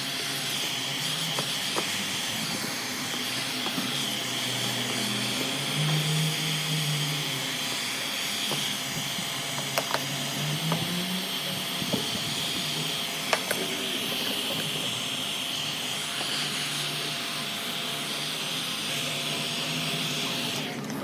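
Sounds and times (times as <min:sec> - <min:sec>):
air tool blowing hiss: 0:00.0 - 0:20.8.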